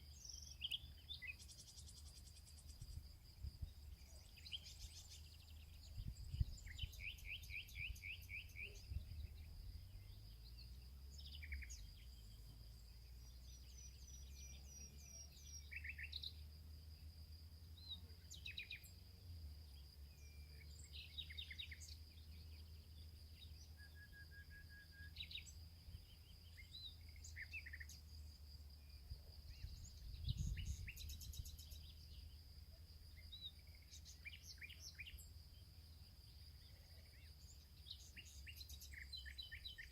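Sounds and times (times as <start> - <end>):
birds chirping: 0.0 - 16.5, 19.7 - 39.9.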